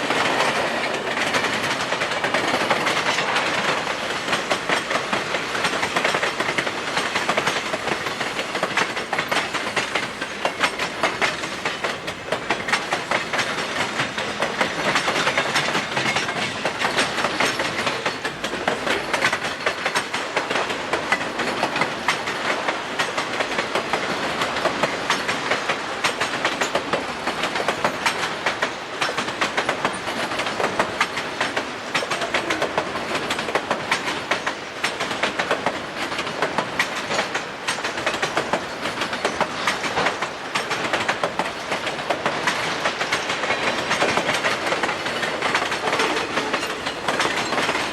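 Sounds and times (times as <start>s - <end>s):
train wheels clattering over rail joints: 0.0s - 47.9s.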